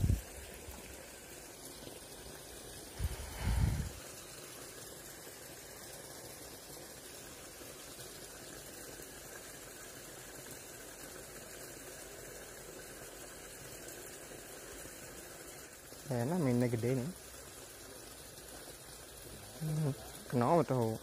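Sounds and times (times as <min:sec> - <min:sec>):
water cascading into a pool: 0:00.0 - 0:21.0.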